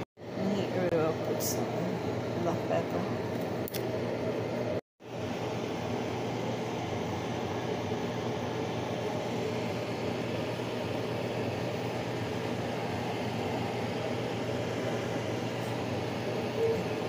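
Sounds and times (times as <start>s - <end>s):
appliance motor hum: 0.0s - 17.0s.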